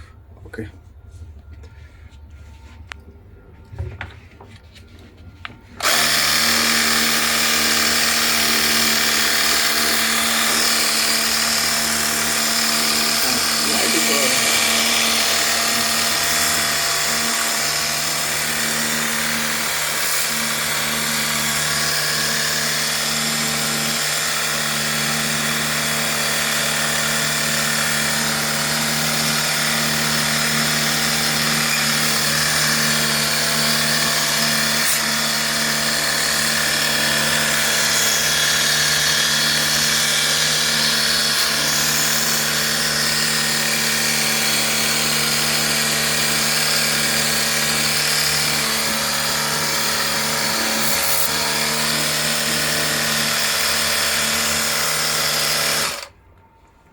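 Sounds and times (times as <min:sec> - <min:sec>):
pump motor humming: 0:05.8 - 0:56.1.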